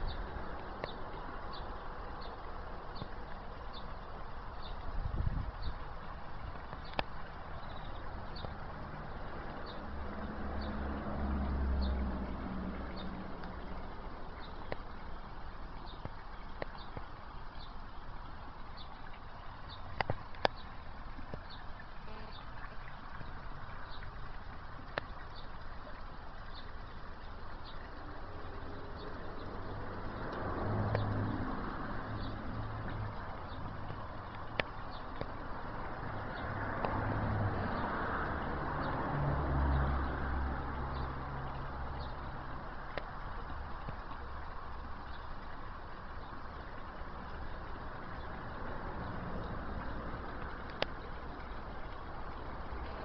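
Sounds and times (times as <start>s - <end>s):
fountain splashing into pond: 0.0s - 53.0s.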